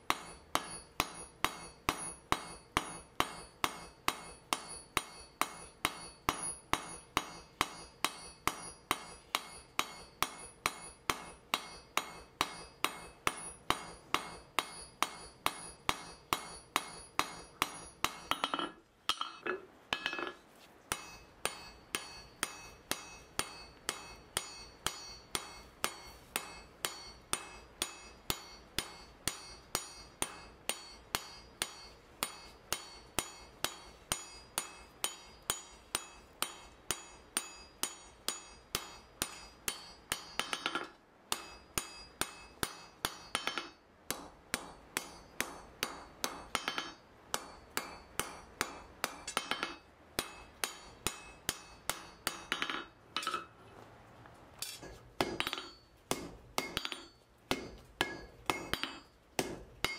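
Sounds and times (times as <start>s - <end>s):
hammer striking steel on anvil: 0.0s - 53.6s, 54.6s - 59.9s.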